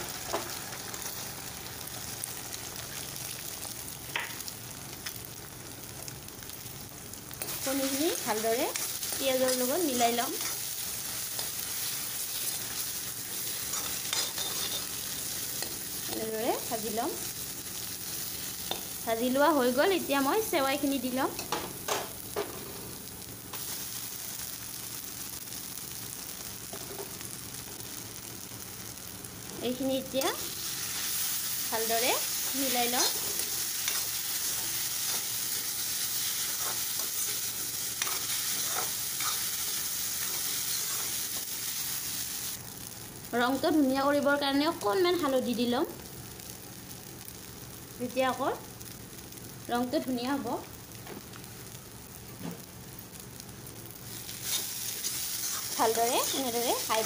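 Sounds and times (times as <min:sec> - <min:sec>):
egg sizzling in hot oil: 0:00.0 - 0:57.0.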